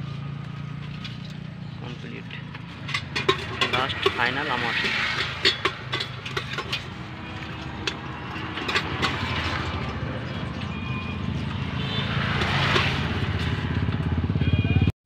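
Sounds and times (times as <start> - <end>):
vehicle engine running: 0.0 - 14.9
hand working in steel bucket: 0.8 - 13.7.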